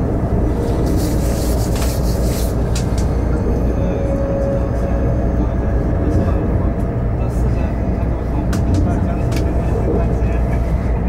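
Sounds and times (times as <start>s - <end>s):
train rumbling and rushing: 0.0s - 11.0s.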